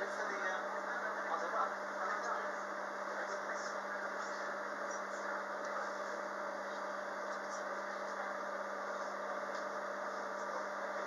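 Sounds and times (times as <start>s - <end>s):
train carriage interior hum: 0.0s - 11.0s.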